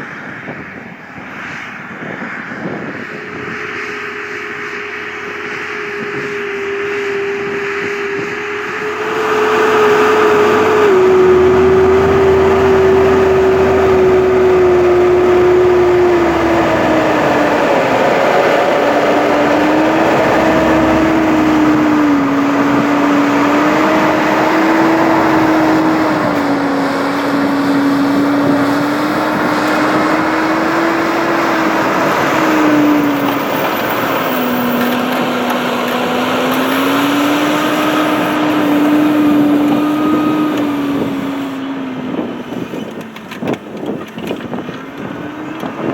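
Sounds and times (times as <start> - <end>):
tractor engine running under load: 0.0 - 45.9.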